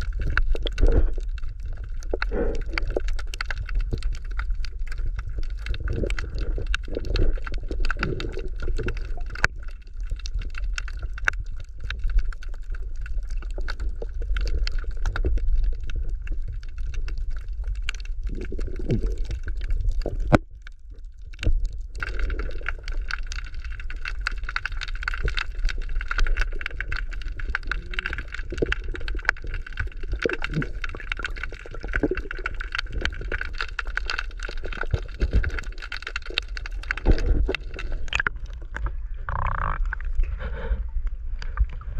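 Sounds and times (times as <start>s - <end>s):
crackle of small clicks: 0.0s - 40.4s, 41.0s - 41.9s
bubbling gurgle: 0.0s - 41.9s
underwater rumble of sea water: 0.0s - 41.9s.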